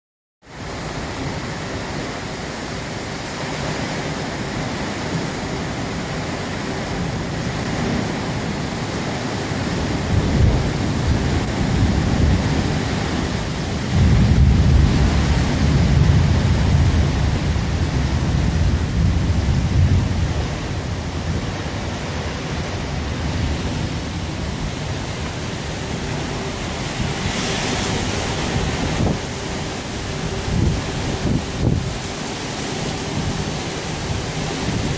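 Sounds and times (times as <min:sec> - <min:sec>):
heavy rain falling: 0:00.4 - 0:34.9.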